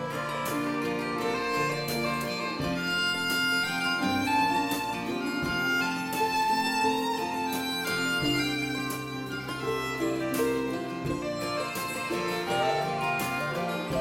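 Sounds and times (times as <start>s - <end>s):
acoustic guitar accompaniment: 0.0s - 14.0s
melodic lead line: 0.0s - 14.0s.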